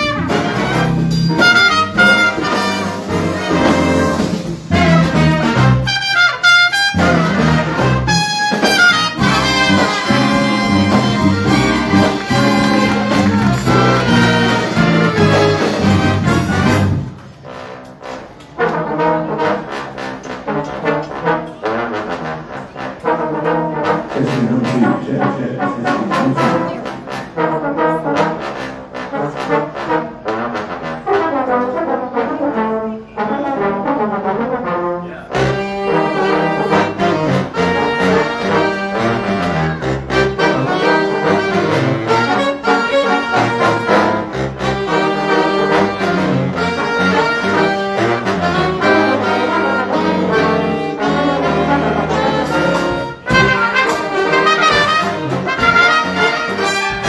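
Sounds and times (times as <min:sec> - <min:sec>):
jazz big band playing: 0:00.0 - 0:57.0.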